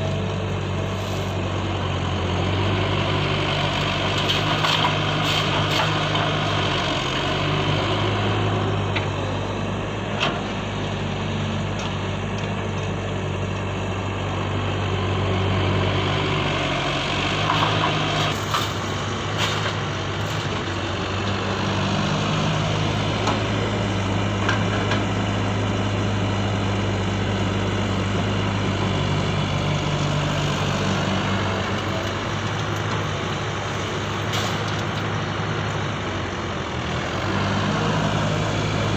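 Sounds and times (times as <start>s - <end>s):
engine-like hum: 0.0s - 38.9s.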